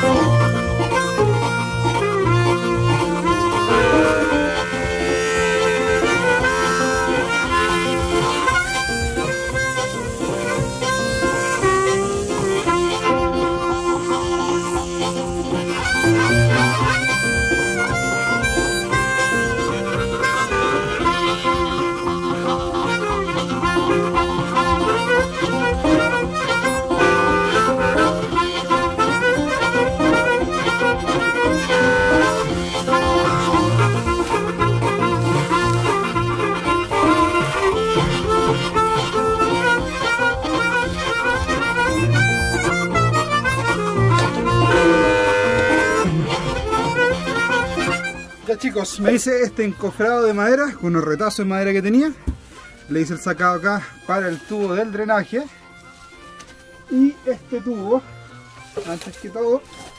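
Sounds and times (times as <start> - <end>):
instrumental background music: 0.0 - 59.9.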